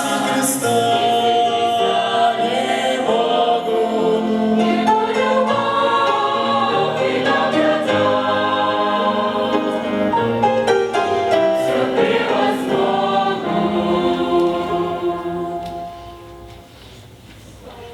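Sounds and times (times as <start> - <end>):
choir singing a hymn: 0.0 - 16.7.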